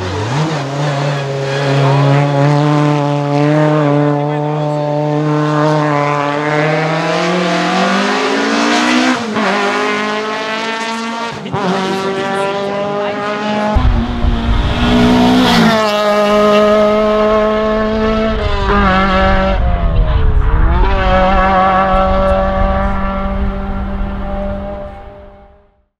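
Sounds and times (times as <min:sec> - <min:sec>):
rally car engine revving with upshifts: 0:00.0 - 0:25.6.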